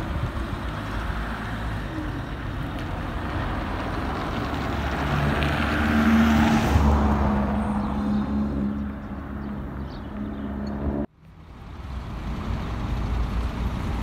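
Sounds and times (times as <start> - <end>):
minibus engines running: 0.0 - 14.0.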